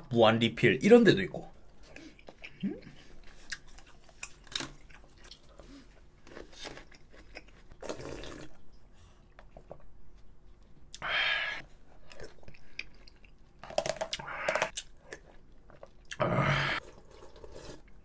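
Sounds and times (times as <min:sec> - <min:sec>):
man chewing food: 0:01.6 - 0:11.0, 0:11.6 - 0:16.2, 0:16.8 - 0:18.0.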